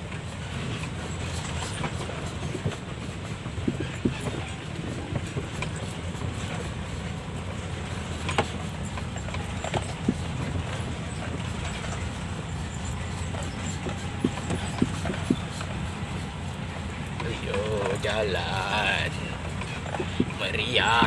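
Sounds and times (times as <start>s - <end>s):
cab knocks and rattles: 0.0s - 21.0s
lorry engine running low: 0.0s - 21.0s.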